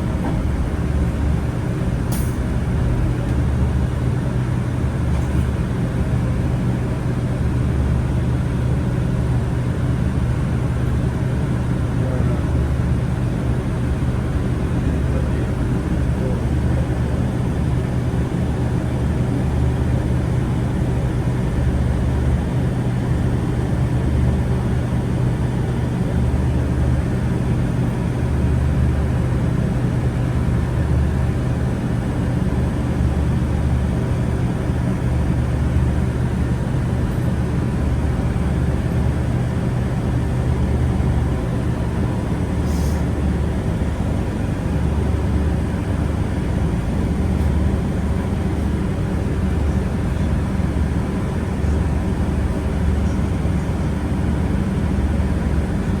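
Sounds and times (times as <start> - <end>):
vehicle interior low hum: 0.0 - 56.0.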